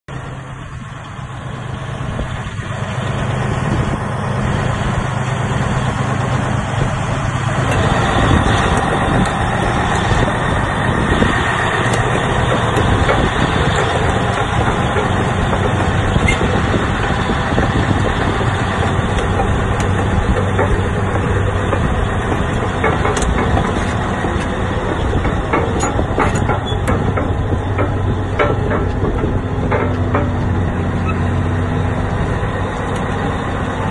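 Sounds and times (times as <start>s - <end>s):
diesel engine running: 0.1s - 33.9s
steel tracks clanking: 4.6s - 33.9s.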